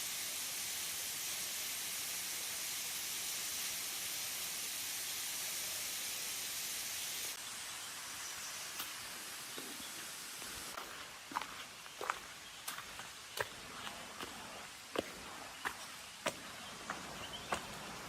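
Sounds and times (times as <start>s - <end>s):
tropical forest hiss: 0.0s - 18.0s.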